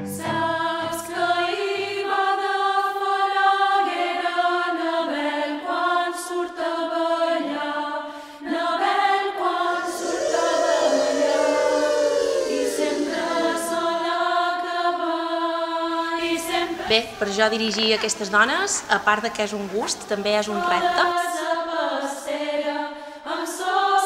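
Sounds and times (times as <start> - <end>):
women's choir singing: 0.1 - 24.0.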